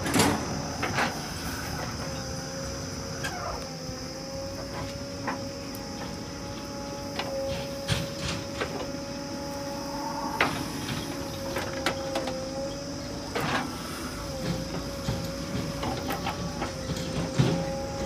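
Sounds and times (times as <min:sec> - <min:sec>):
engine and hydraulics whining: 0:00.0 - 0:18.0.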